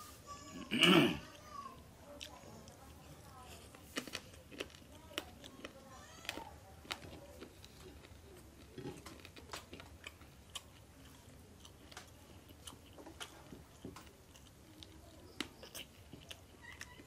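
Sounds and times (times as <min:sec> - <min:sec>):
man chewing with mouth smacks: 0:02.1 - 0:17.0.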